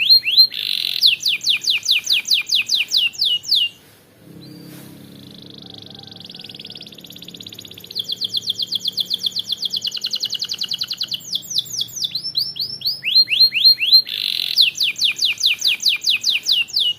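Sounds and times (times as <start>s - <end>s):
canary singing trills: 0.0s - 16.9s.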